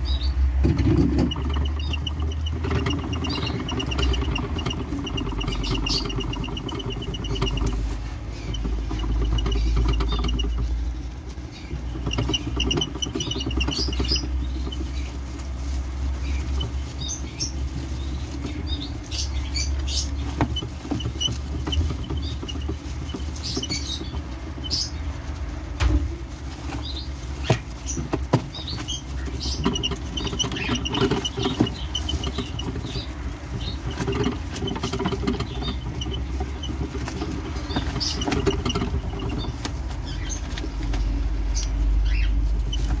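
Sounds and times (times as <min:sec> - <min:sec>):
exercise wheel rattling: 0:00.0 - 0:41.2
small feet pattering: 0:00.8 - 0:43.0.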